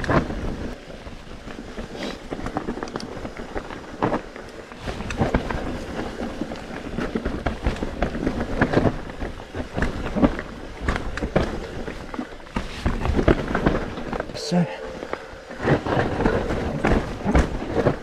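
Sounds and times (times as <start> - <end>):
bike tyres rumbling on trail: 0.0 - 18.0.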